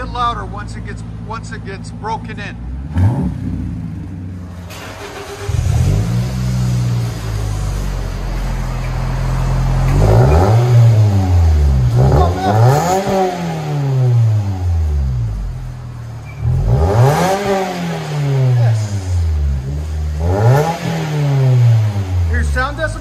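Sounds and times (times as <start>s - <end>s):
car exhaust idling and revving: 0.0s - 23.0s.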